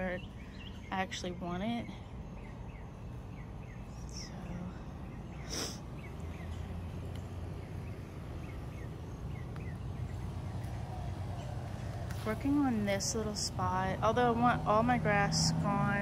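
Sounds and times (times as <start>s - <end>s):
bird chirping: 0.0s - 14.0s
low outdoor rumble: 0.0s - 16.0s.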